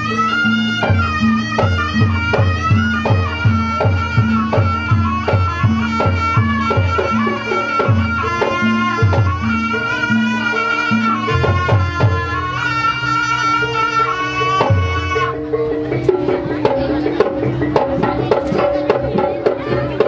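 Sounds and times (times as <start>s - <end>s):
drum strokes: 0.0s - 12.6s, 14.5s - 20.0s
reed wind instrument melody: 0.0s - 20.0s.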